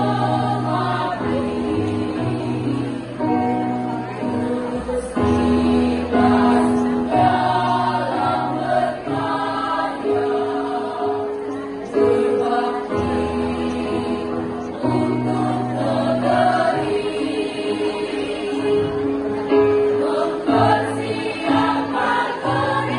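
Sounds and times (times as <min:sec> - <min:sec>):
women's choir singing in harmony: 0:00.0 - 0:22.9.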